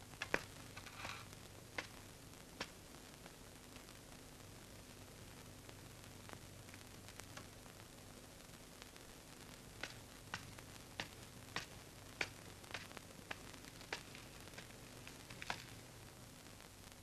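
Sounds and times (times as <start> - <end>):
film soundtrack hiss and hum: 0.0 - 17.0.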